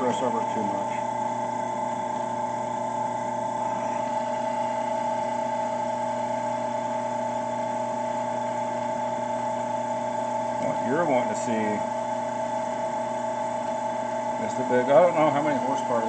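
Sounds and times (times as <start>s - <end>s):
drill press motor humming: 0.0s - 16.0s.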